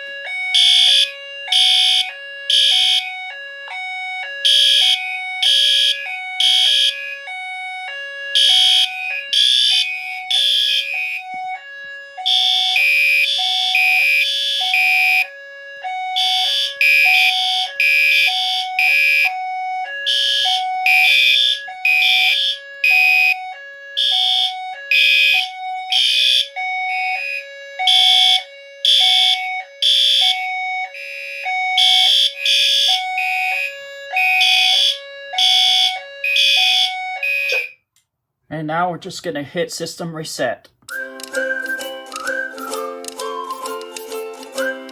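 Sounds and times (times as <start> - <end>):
pulsing fire alarm horn blasts: 0.0 - 37.9
hi-lo alarm tone: 0.2 - 37.8.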